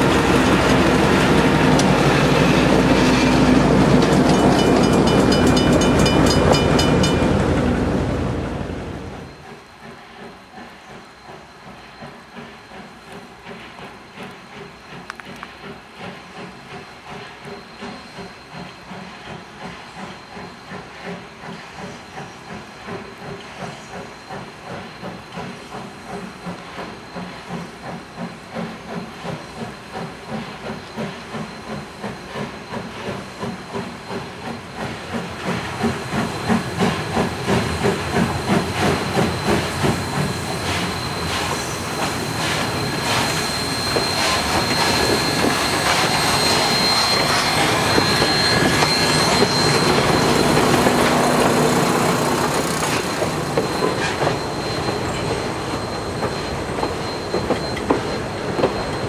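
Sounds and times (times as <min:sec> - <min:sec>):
steam hissing: 0:00.0 - 0:59.0
steam locomotive exhaust chuffing: 0:00.0 - 0:59.0.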